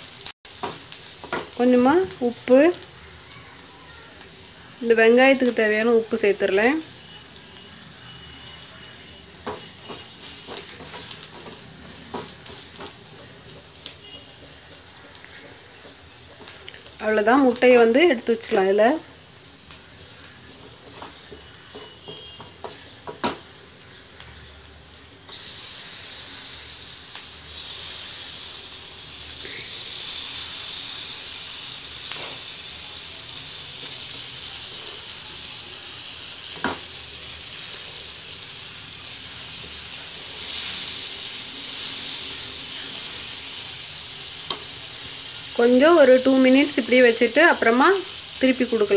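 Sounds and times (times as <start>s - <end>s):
food sizzling in hot oil: 0.0s - 48.9s.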